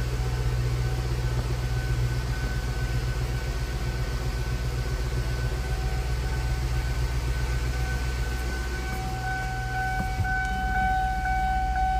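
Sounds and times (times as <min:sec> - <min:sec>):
car exhaust idling rumble: 0:00.0 - 0:11.9
high whine: 0:00.0 - 0:11.9.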